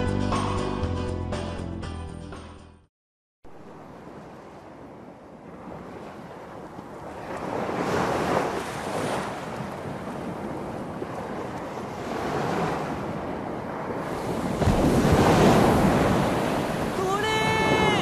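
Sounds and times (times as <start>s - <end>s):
ocean surf washing onto shore: 3.5s - 18.0s.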